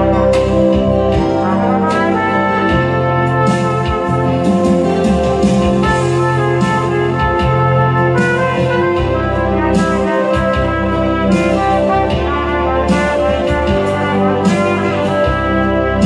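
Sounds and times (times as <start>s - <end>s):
instrumental accompaniment: 0.0s - 16.0s
trumpet melody: 0.0s - 16.0s.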